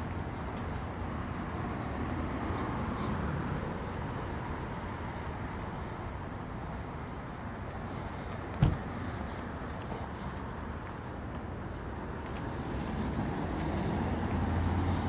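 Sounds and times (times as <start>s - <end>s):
outdoor air noise: 0.0s - 15.0s.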